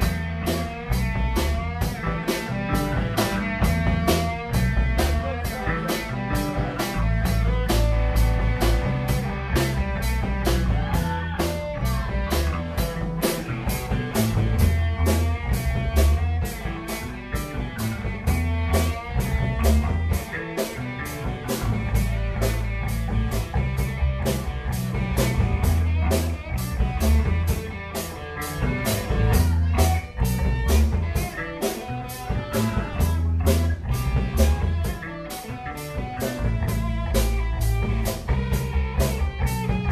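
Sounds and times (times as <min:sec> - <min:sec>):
drum kit with cymbal strokes: 0:00.0 - 0:39.9
electric guitars playing: 0:00.0 - 0:39.9
heavy bass line: 0:00.0 - 0:39.9.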